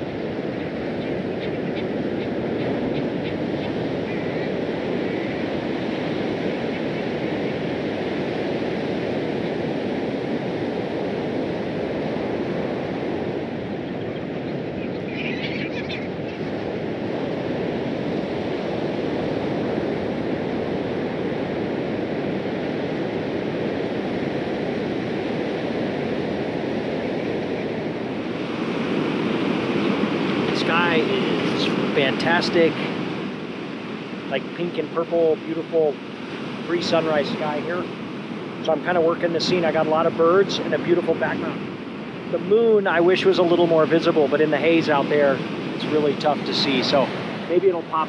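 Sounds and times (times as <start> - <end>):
ocean surf breaking on shore: 0.0 - 48.0.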